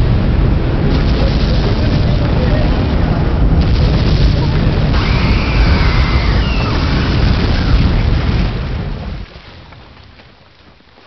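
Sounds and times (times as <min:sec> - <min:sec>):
explosion rumble: 0:00.0 - 0:09.9.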